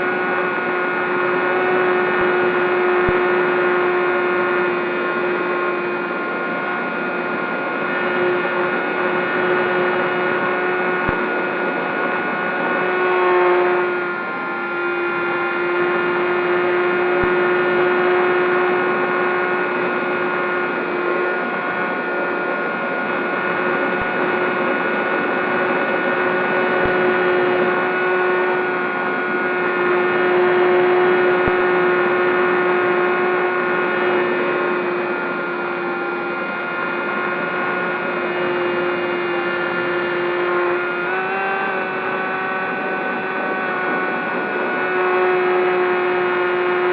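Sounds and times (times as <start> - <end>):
electric motor propeller whine: 0.0 - 46.9.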